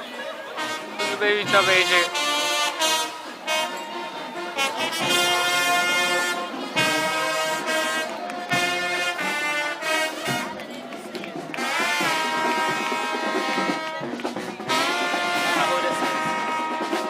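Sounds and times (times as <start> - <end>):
brass instruments playing chords: 0.0 - 17.0.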